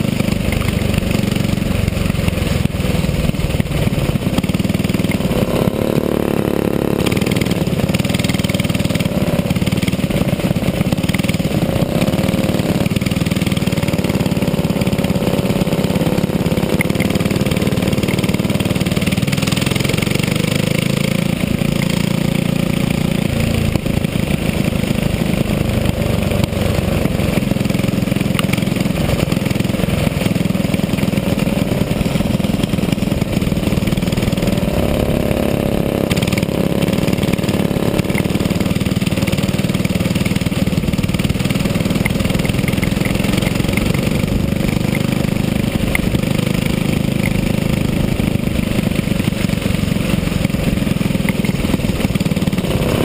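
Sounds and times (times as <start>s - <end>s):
go-kart engine racing: 0.0s - 53.0s.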